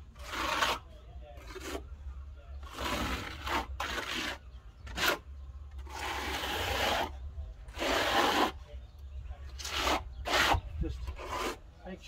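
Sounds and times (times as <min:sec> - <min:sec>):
trowel scraping board: 0:00.0 - 0:01.9, 0:02.6 - 0:08.6, 0:09.6 - 0:11.6.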